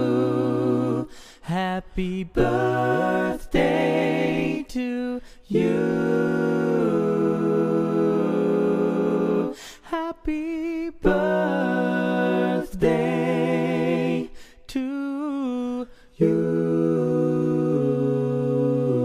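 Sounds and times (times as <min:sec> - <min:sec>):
wordless singing with vibrato: 0:00.0 - 0:19.0.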